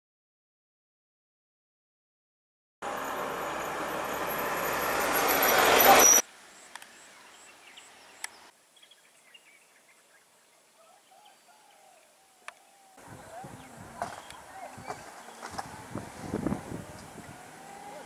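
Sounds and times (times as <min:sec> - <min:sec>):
faint outdoor ambience: 0:02.8 - 0:18.0.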